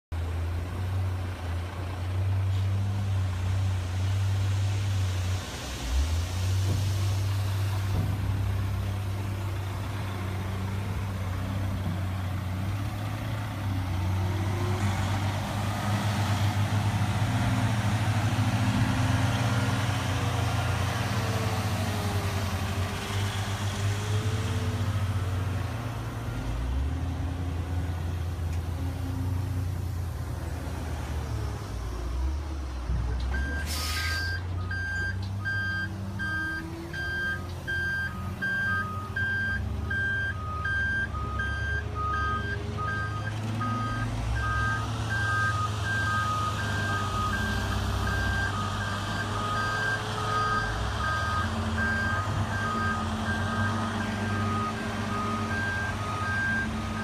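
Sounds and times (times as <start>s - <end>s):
diesel truck engine running: 5.7s - 57.0s.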